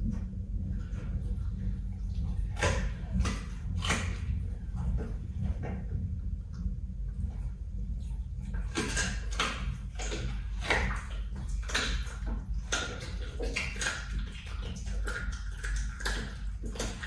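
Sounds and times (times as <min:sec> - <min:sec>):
animal chewing and licking meat: 0:00.0 - 0:17.0
steady low hum: 0:00.0 - 0:17.0.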